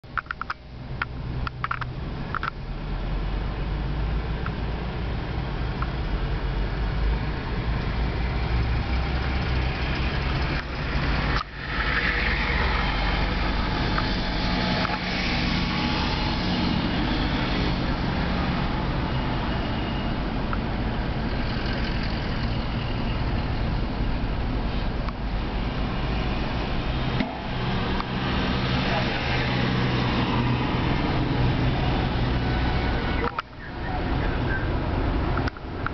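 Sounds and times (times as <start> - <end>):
car engine and road noise: 0.0 - 35.9.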